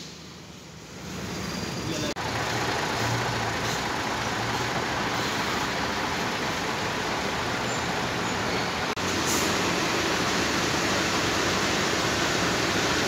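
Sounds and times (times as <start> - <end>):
yard and traffic noise: 0.0 - 13.0
diesel truck engine idling: 2.0 - 13.0.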